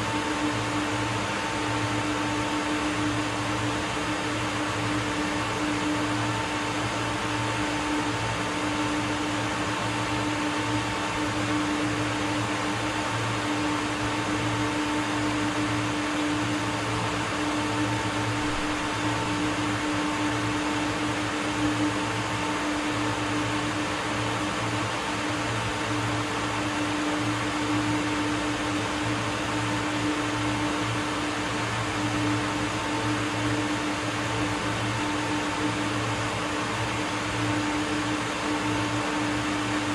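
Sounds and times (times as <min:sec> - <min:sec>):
machinery and ventilation hum: 0:00.0 - 0:39.9.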